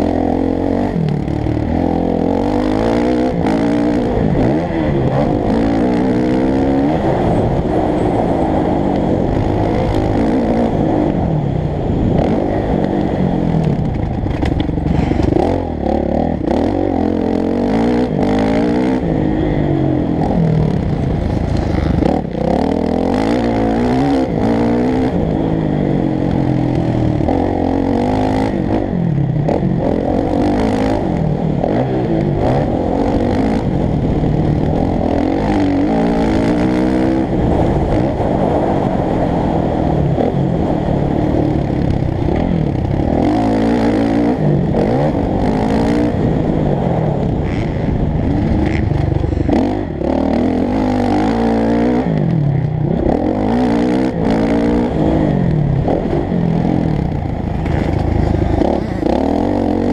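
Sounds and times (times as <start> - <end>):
motocross bike engine revving: 0.0 - 38.9, 40.1 - 59.9.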